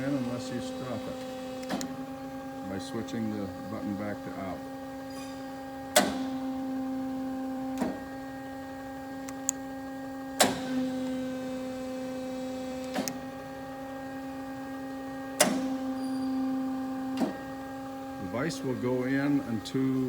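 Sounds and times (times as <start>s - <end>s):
hydraulic pump motor hum: 0.0s - 20.0s.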